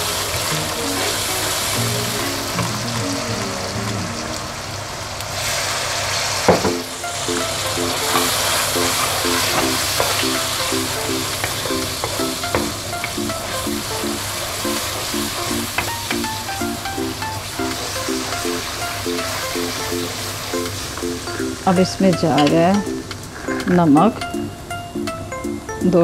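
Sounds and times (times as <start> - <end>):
food sizzling in hot oil: 0.0 - 23.8.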